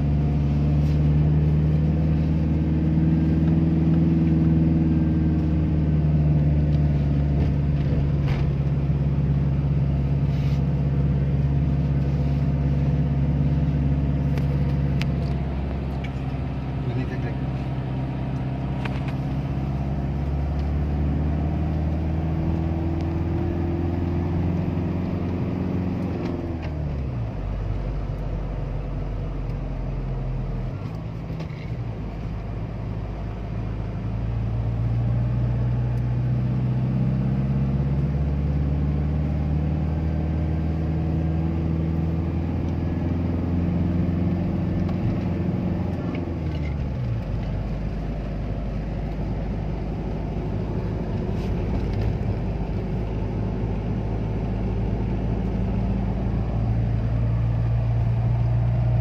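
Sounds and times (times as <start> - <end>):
steady road rumble: 0.0 - 59.0
vehicle engine revving: 0.0 - 59.0.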